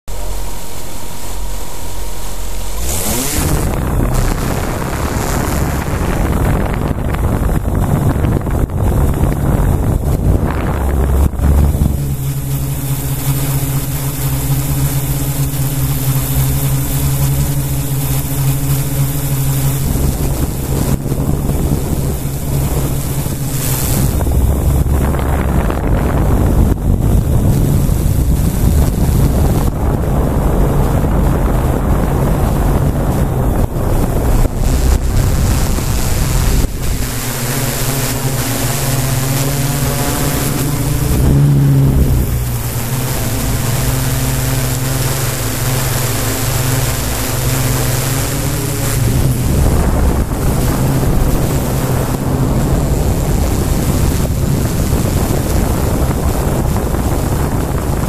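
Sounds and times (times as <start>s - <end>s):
drone motors and propellers: 0.0s - 58.0s
wind buffeting microphone: 2.7s - 58.0s.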